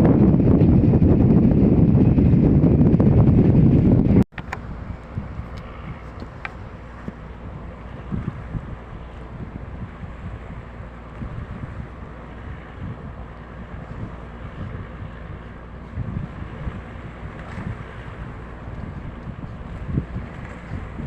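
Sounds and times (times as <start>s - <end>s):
boat engine rumble: 0.0s - 21.0s
water rushing past boat: 0.0s - 21.0s
wind buffeting microphone: 0.0s - 21.0s.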